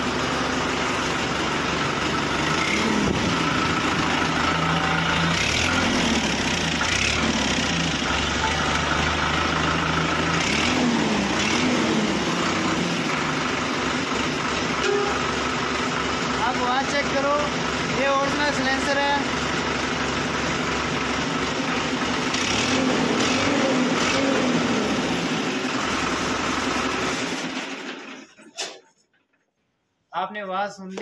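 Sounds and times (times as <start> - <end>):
tractor diesel engine idling: 0.0 - 28.8.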